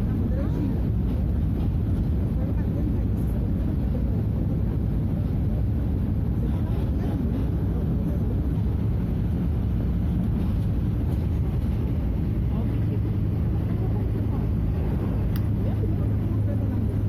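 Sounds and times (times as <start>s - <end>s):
diesel bus engine droning: 0.0s - 17.0s.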